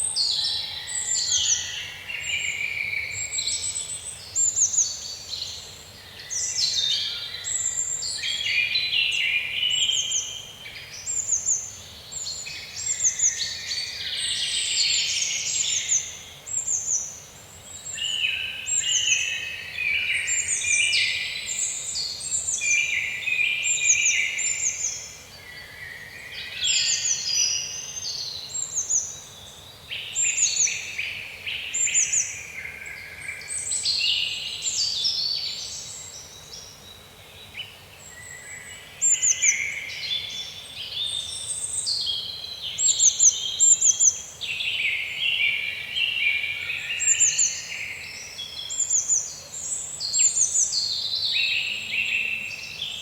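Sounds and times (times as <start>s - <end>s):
faint steady hiss: 0.0s - 53.0s
songbirds chirping: 0.0s - 53.0s.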